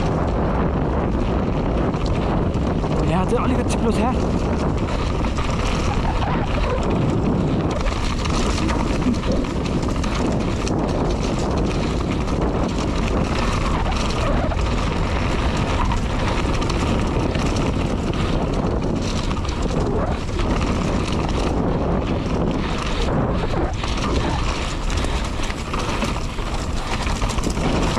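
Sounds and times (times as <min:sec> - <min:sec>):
bike rattling over rough ground: 0:00.0 - 0:27.9
wind buffeting microphone: 0:00.0 - 0:27.9.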